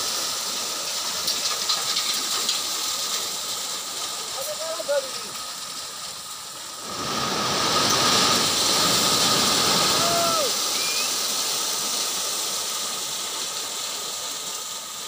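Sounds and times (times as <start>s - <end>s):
crushed stone pouring: 0.0s - 15.0s.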